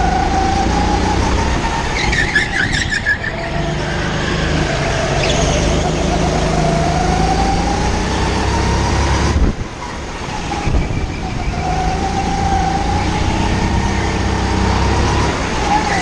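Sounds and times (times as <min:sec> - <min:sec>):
kart engine whining: 0:00.0 - 0:16.0.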